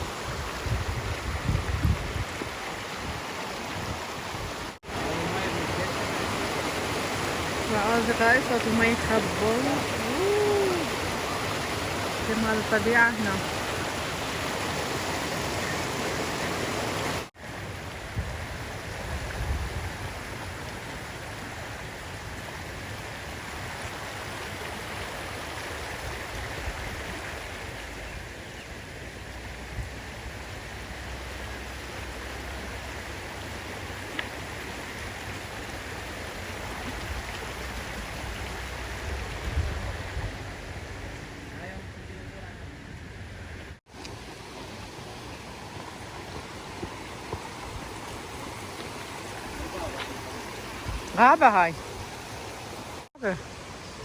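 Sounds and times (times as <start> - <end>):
mountain stream rushing: 0.0 - 41.8, 43.8 - 54.0.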